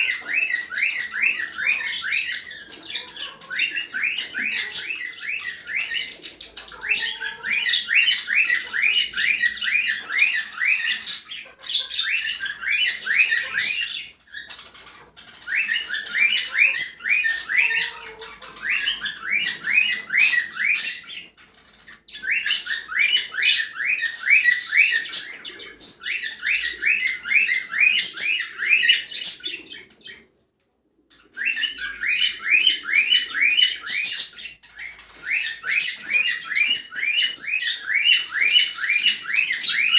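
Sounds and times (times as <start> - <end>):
cockatiels chirping and chattering: 0.0 - 39.9.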